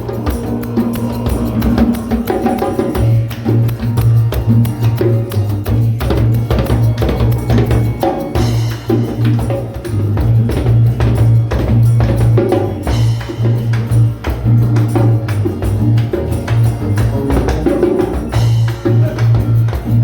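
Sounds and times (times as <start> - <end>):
hand percussion with jingles: 0.0 - 20.0
low droning tone: 0.0 - 20.0.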